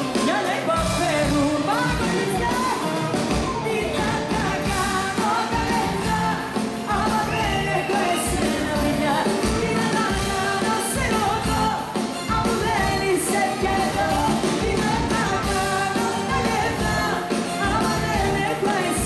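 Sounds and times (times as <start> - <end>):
live pop band with drums: 0.0 - 19.0
woman singing into a microphone: 0.0 - 19.0.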